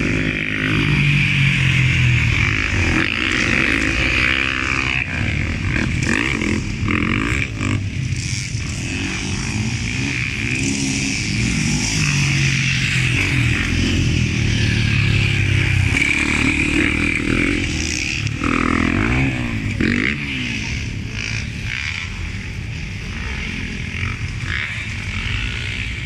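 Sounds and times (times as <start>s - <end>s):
motocross engines revving: 0.0s - 26.0s.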